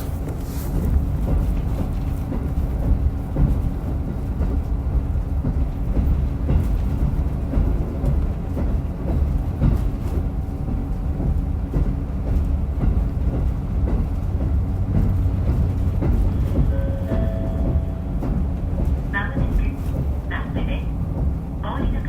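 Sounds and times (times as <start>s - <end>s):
railcar engine and wheels rumbling: 0.0s - 22.0s.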